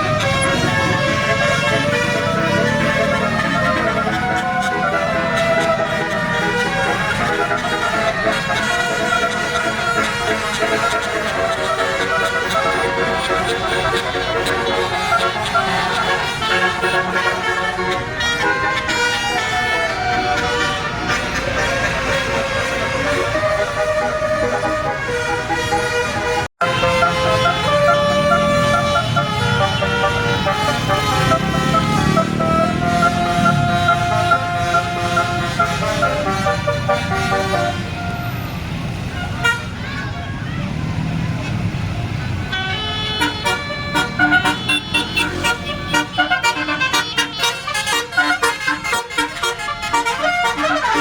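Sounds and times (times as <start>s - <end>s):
multi-tone bus horn playing a tune: 0.0s - 51.0s.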